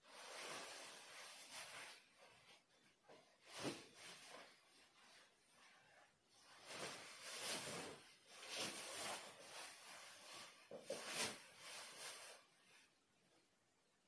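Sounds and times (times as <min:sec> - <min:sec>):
clothing fabric rustling: 0:00.0 - 0:13.5.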